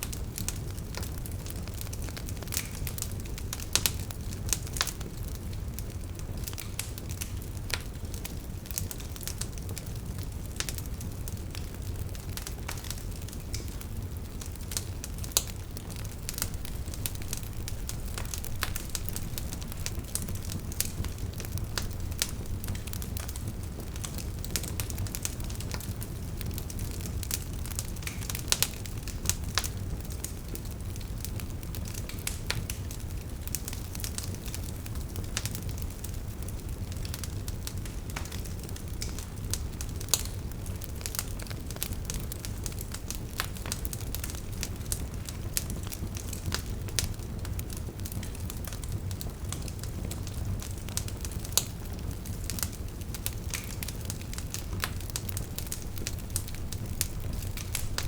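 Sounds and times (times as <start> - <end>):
burning logs crackling: 0.0 - 58.0.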